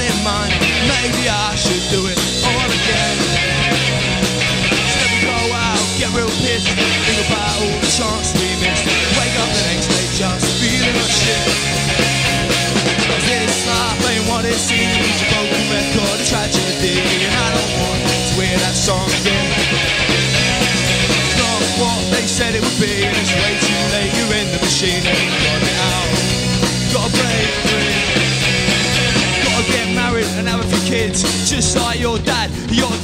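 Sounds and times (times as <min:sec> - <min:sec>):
drum kit: 0:00.0 - 0:33.0
electric guitars: 0:00.0 - 0:33.0.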